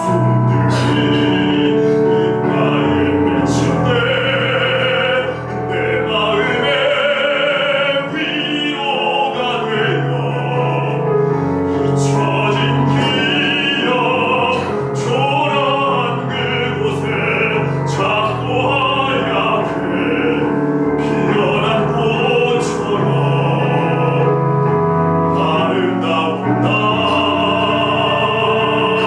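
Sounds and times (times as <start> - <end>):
instrumental accompaniment: 0.0 - 29.0
operatic voice singing: 0.0 - 29.0.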